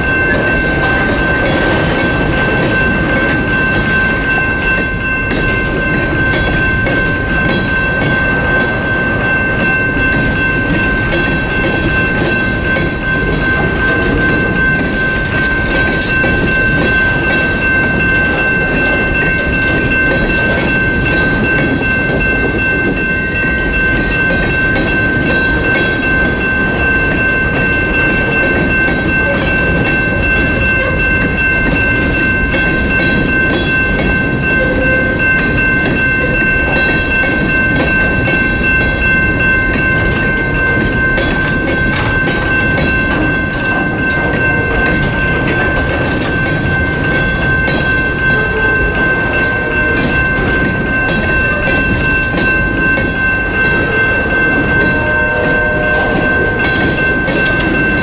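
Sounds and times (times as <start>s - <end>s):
steady high-pitched tone: 0.0s - 58.0s
train wheels rumbling on rails: 0.0s - 58.0s.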